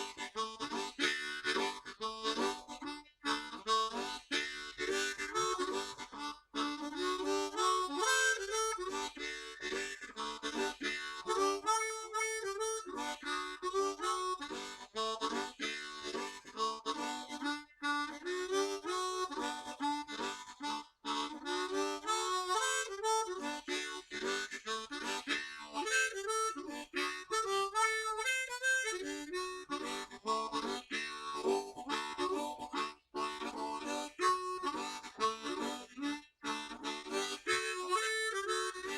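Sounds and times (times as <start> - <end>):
harmonica melody with chords: 0.0 - 38.9.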